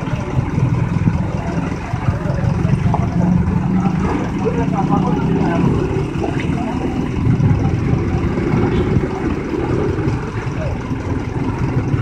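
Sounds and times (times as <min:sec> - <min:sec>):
crowd chatter: 0:00.0 - 0:12.0
vehicle engine running: 0:00.0 - 0:12.0.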